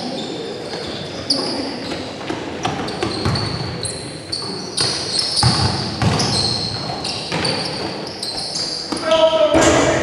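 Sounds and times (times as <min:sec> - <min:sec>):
sneakers squeaking: 0:00.0 - 0:10.0.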